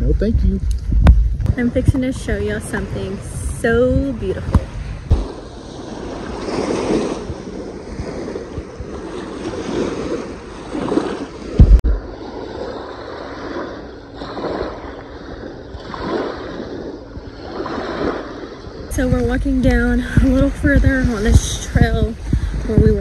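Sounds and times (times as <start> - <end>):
wind gust on microphone: 0.0 - 23.0
waves lapping on shore: 1.4 - 23.0.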